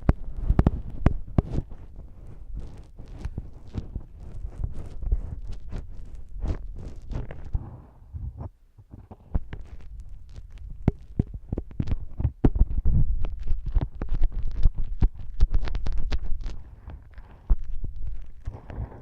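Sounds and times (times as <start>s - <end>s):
ear-cleaning tool scraping wet earwax: 0.1s - 7.6s, 9.3s - 18.6s.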